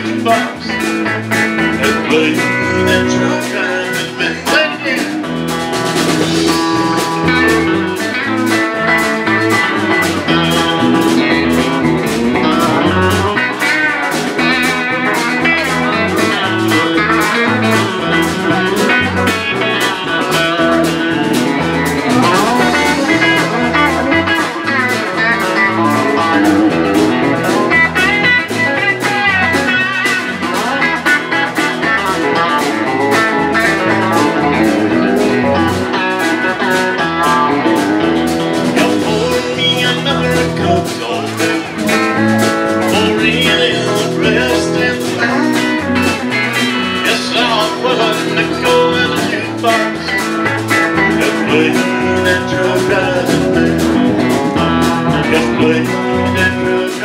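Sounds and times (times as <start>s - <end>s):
drum kit beat: 0.0s - 57.0s
electric bass: 0.0s - 57.0s
electric guitars: 0.0s - 57.0s.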